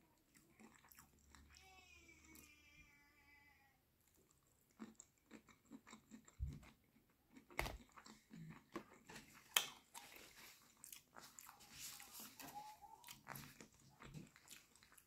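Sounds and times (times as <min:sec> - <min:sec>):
chewing mouth clicks and smacks: 0:00.1 - 0:01.6, 0:04.0 - 0:15.0.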